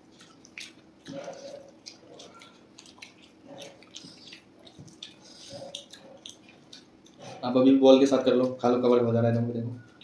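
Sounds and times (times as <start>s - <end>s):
chewing: 0.0s - 8.6s
wet squish of fingers mixing food: 0.0s - 8.9s.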